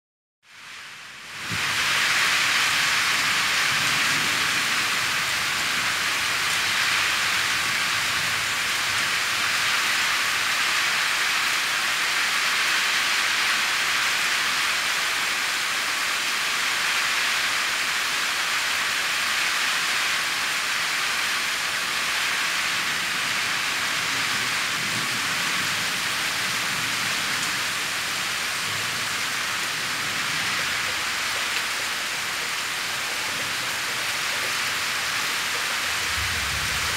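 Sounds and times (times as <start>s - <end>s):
heavy rain downpour: 0.5s - 36.9s.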